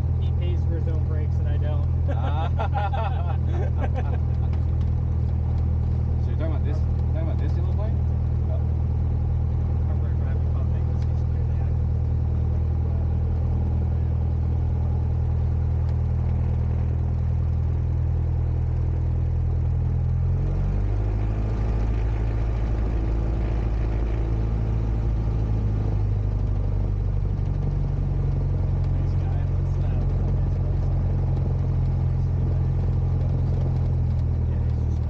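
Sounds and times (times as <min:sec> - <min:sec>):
propeller plane engine droning: 0:00.0 - 0:35.0.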